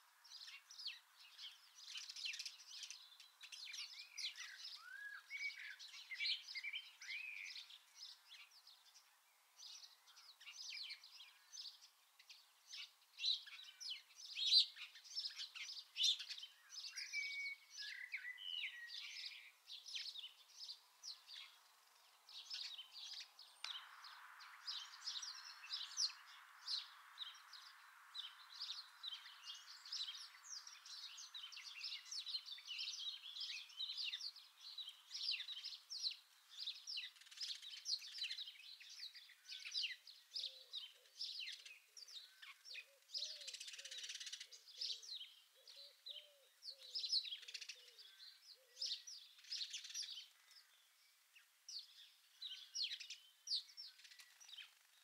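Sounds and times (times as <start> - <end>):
low repeated bird call notes: 0.0 - 55.0
songbirds chirping and singing: 0.0 - 55.0.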